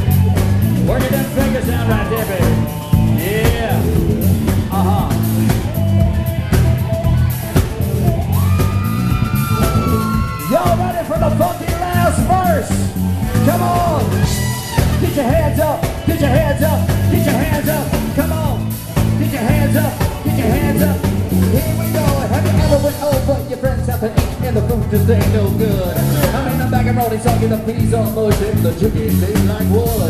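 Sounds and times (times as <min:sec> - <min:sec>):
live funk band playing: 0:00.0 - 0:30.0.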